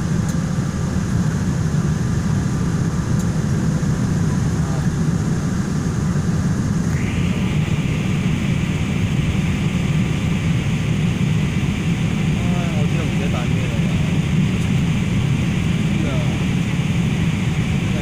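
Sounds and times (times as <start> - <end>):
airplane cabin roar: 0.0 - 18.0.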